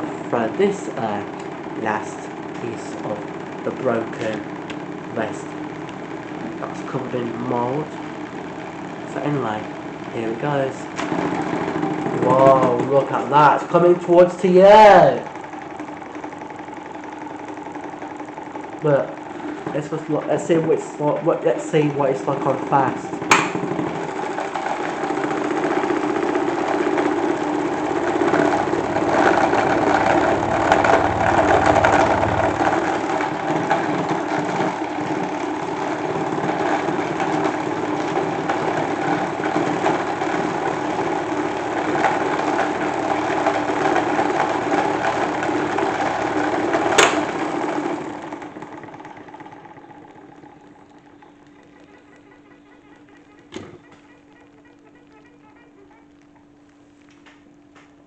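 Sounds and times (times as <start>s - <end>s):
salad spinner whirring: 0.0s - 56.7s.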